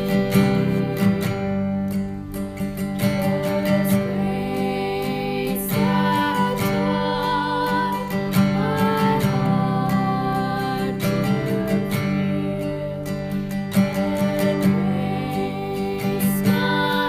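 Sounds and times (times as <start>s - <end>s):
strummed acoustic guitar: 0.0s - 17.0s
woman singing slow song: 0.0s - 17.0s.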